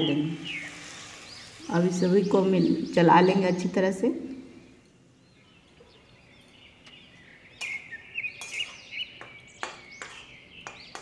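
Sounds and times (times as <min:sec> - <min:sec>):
faint bird chirps: 0:00.3 - 0:11.0.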